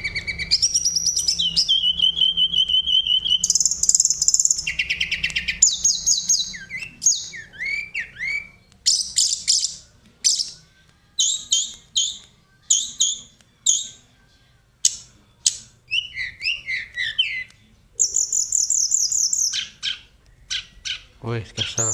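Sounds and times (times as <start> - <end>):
flycatcher singing: 0.0 - 21.9.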